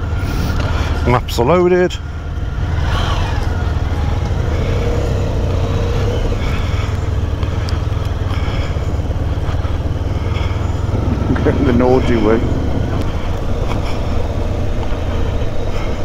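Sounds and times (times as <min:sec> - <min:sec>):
motorcycle engines rumbling: 0:00.0 - 0:16.0.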